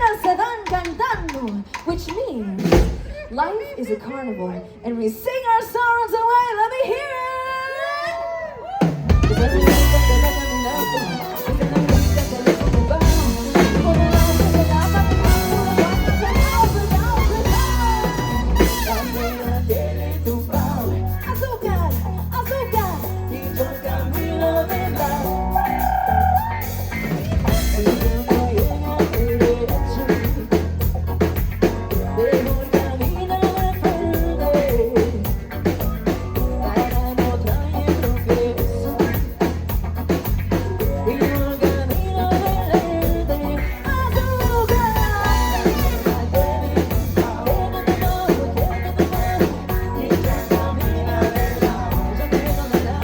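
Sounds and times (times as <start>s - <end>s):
live latin pop band: 0.0s - 53.0s.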